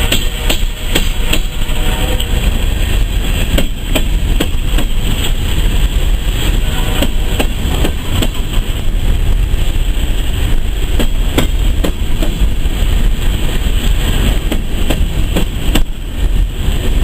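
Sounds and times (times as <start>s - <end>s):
train rumbling past: 0.0s - 17.0s
wheels clacking on rails: 0.0s - 17.0s.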